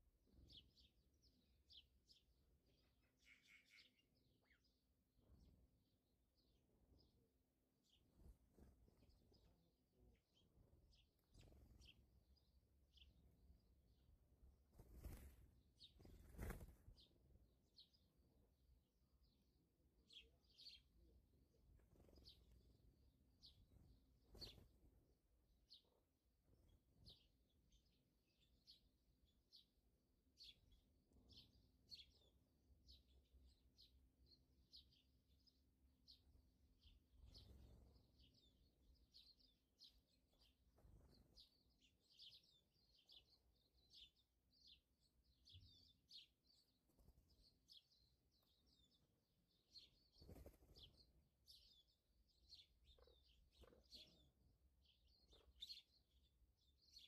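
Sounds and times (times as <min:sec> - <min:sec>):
faint birds chirping: 0:00.0 - 0:57.0.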